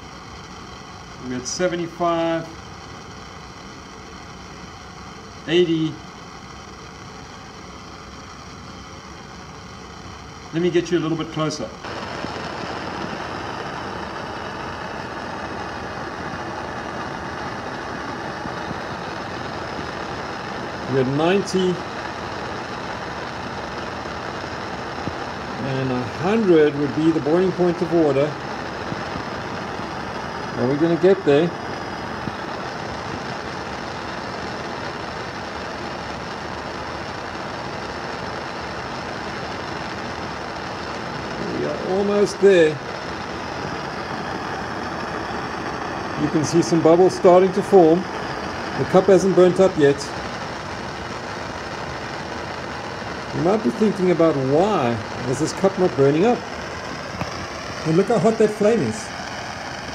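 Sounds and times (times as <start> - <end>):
propane torch hissing: 0.0 - 59.9.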